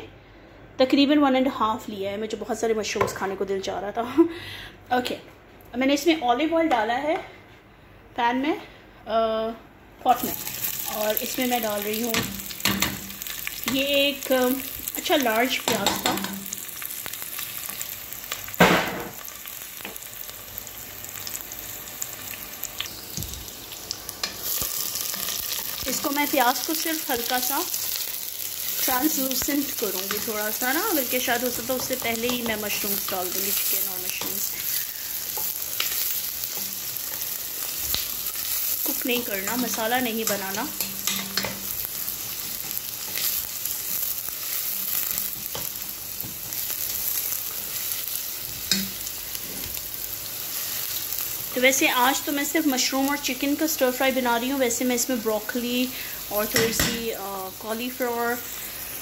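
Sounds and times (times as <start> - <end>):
onion sizzling in oil: 10.0 - 59.0.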